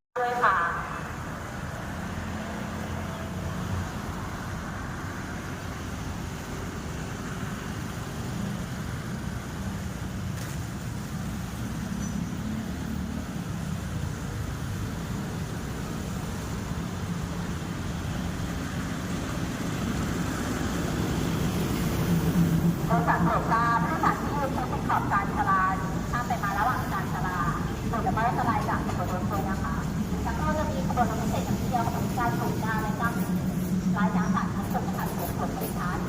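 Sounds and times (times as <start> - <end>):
train rumbling: 0.4 - 36.0.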